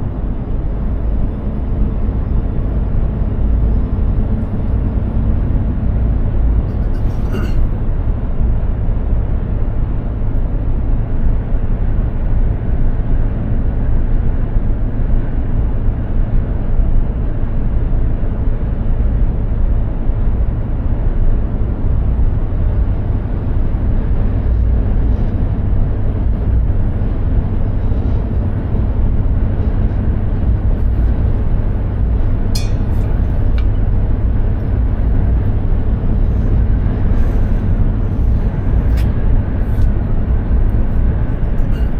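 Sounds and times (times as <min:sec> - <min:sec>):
road noise: 0:00.0 - 0:41.9
truck diesel engine drone: 0:00.0 - 0:41.9.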